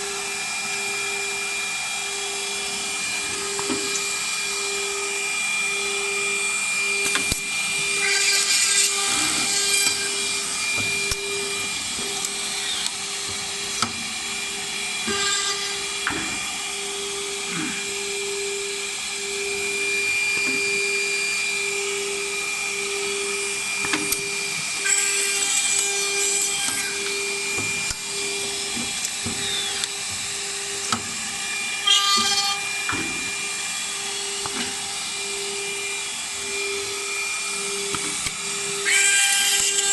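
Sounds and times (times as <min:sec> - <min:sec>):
high-pitched machine bursts: 0:00.0 - 0:39.9
machine motor hum and whine: 0:00.0 - 0:39.9.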